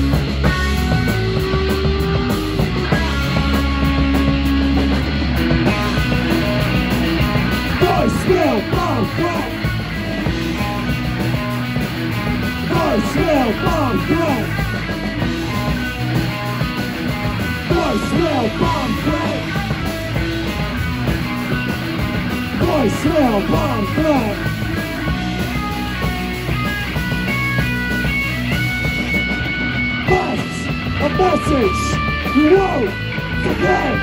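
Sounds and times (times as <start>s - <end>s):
punk band playing loud: 0.0s - 34.0s
swooping sliding guitar notes: 0.0s - 34.0s.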